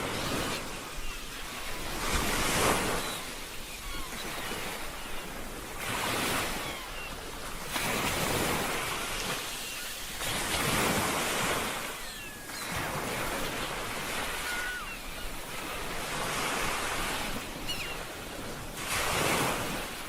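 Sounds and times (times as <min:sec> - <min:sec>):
ocean waves breaking: 0:00.0 - 0:20.0
wind: 0:00.0 - 0:20.0.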